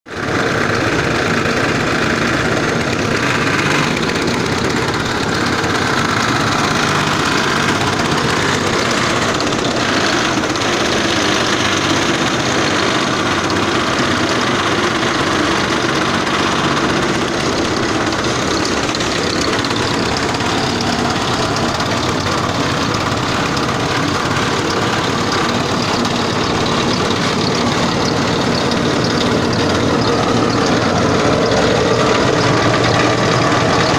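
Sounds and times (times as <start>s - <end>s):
machine motor rattling and humming: 0.1s - 33.9s.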